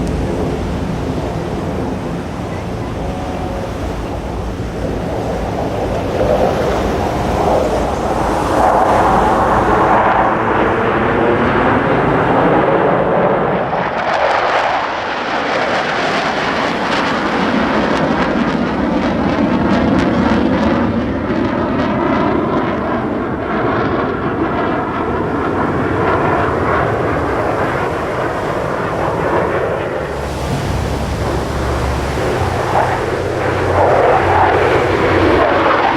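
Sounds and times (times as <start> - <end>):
fighter jets roaring past: 0.0 - 35.9.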